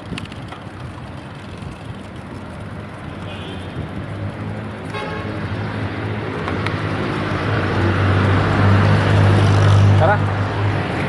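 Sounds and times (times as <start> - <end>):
car approaching on road: 0.0 - 11.0.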